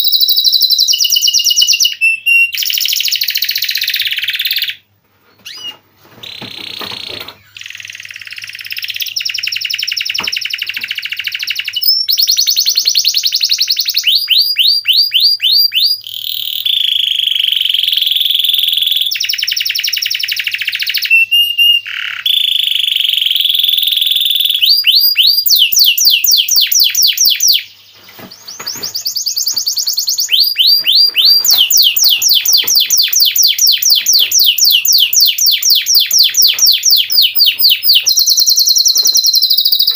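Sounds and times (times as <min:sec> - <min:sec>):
canary singing trills: 0:05.4 - 0:39.9.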